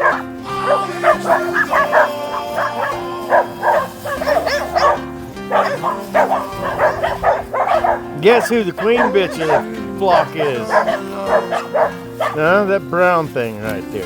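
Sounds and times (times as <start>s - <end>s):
dogs barking and yipping: 0.0s - 12.7s
music with long held notes: 0.0s - 14.0s.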